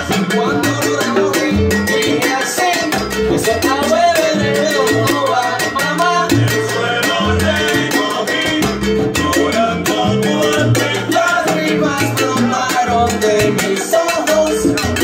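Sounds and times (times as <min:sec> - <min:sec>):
salsa band playing: 0:00.0 - 0:15.0.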